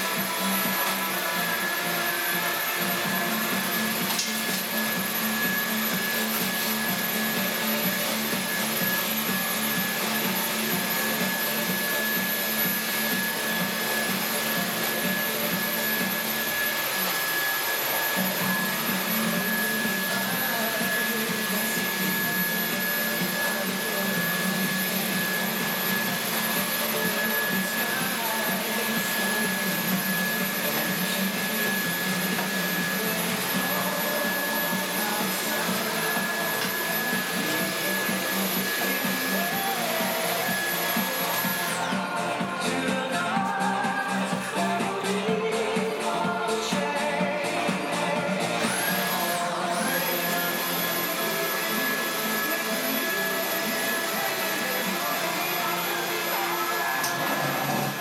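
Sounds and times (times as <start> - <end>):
stick vacuum cleaner running: 0.0 - 58.0.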